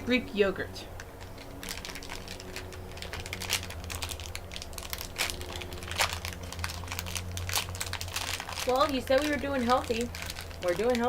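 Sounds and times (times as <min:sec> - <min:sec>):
low hum: 0:00.0 - 0:11.0
plastic packaging crinkling: 0:00.9 - 0:11.0.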